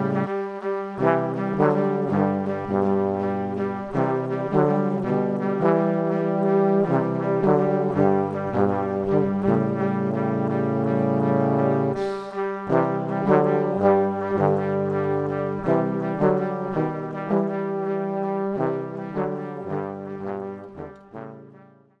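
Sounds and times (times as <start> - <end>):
instrumental music: 0.0 - 22.0.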